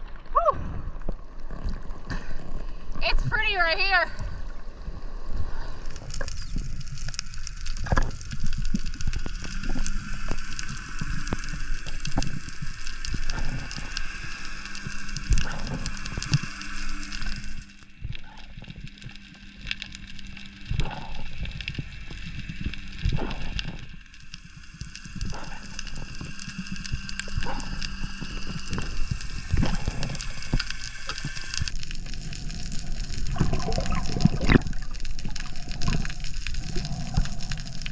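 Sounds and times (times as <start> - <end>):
underwater crackling clicks: 5.5 - 37.9.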